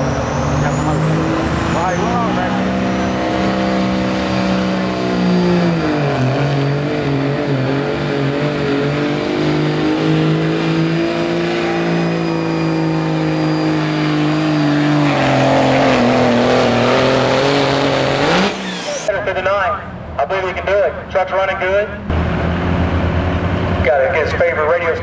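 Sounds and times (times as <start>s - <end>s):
diesel truck engine at full throttle: 0.0s - 25.0s.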